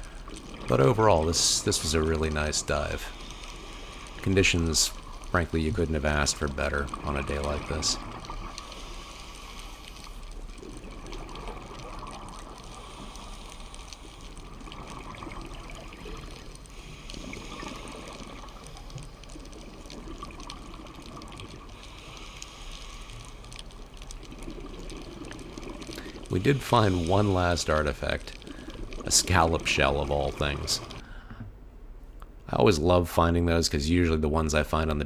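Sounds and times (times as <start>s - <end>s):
muffled underwater water noise: 0.0s - 35.0s.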